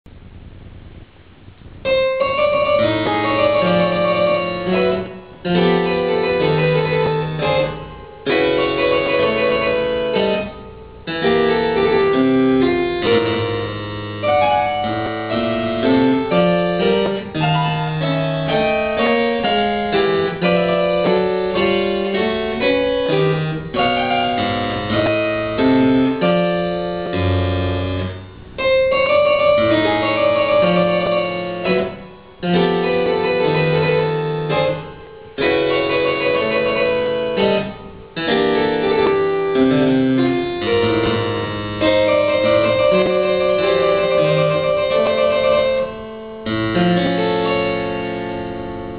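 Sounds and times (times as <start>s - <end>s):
harpsichord folk-dance piece: 1.9s - 48.9s.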